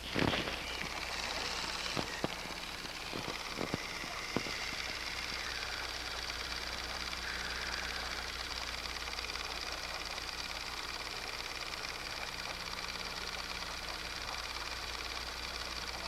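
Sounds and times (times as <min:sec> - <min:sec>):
low electrical hum: 0:00.0 - 0:16.0
steady tape hiss: 0:00.0 - 0:16.0.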